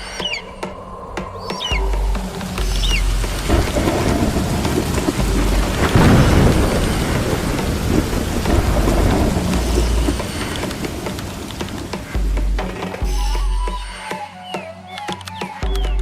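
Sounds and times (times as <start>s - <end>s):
thunder rumbling: 0.0s - 13.8s
heavy rain falling: 0.0s - 13.9s.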